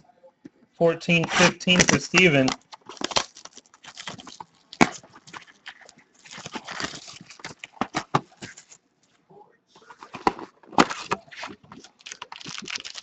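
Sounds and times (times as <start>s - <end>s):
packaging crinkling and rustling: 1.3s - 8.8s, 9.9s - 13.0s.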